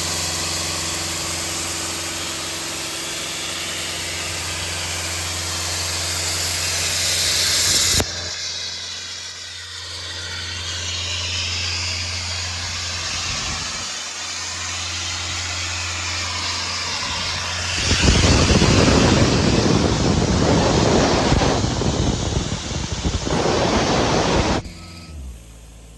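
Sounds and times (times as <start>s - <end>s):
loud rushing air hiss: 0.0s - 24.6s
diesel air compressor running: 0.0s - 25.9s.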